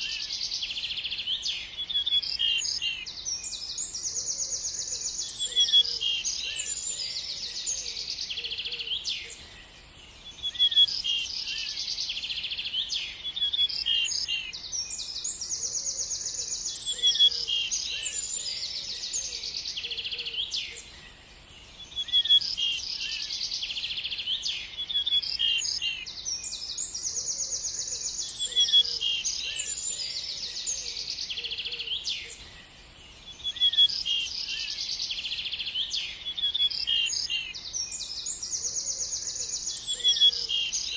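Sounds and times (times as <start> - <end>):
small birds chirping and twittering: 0.0 - 40.9.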